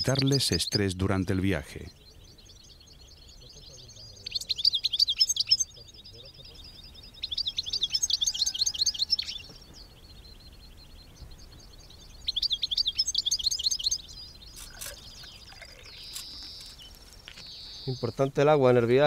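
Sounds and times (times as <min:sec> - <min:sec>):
finch twittering: 0:00.0 - 0:19.0.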